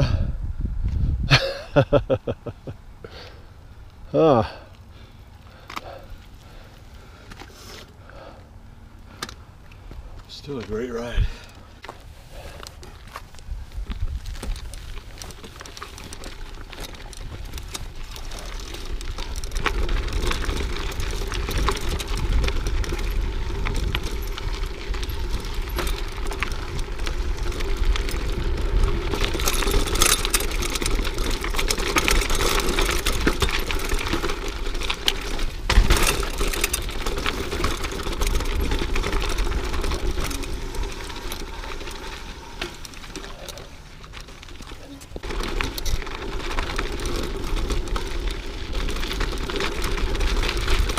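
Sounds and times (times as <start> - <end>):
wind rumbling on microphone: 0.0 - 2.4, 11.1 - 50.9
bike tyres rolling on dirt: 0.0 - 50.9
bike clicking and rattling: 1.3 - 50.9.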